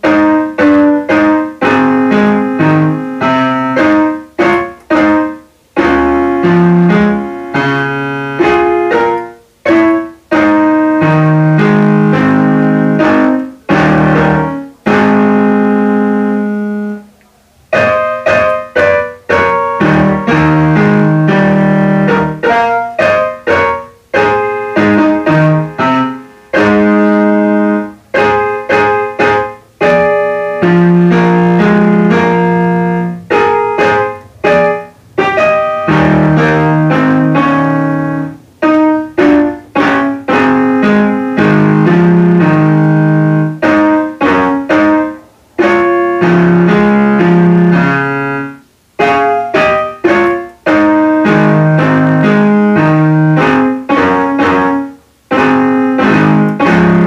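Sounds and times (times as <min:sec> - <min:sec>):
electronic keyboard piano playing: 0:00.0 - 0:57.0.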